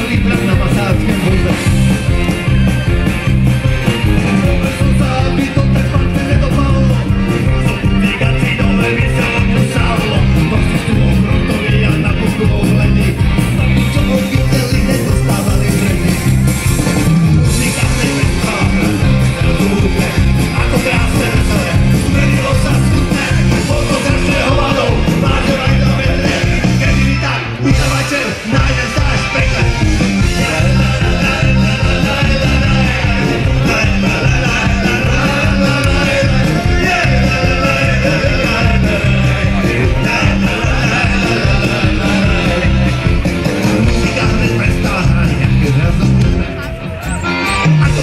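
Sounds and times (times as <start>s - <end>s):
man singing: 0.0s - 3.1s, 3.8s - 48.0s
accordion: 0.0s - 48.0s
drums: 0.0s - 48.0s
electric guitar: 0.0s - 48.0s
live folk-rock band playing: 0.0s - 48.0s.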